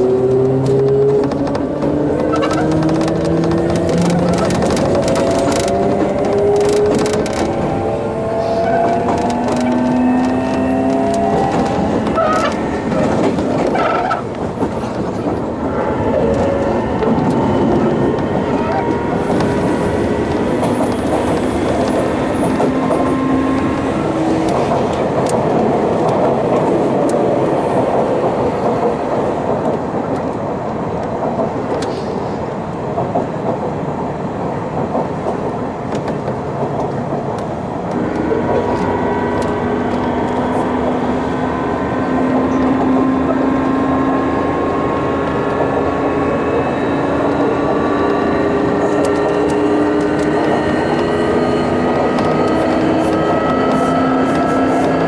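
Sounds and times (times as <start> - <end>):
rising traction motor tone: 0.0 - 27.2, 37.9 - 55.0
rail joint clicks: 0.0 - 55.0
train wheels rolling on rails: 0.0 - 55.0.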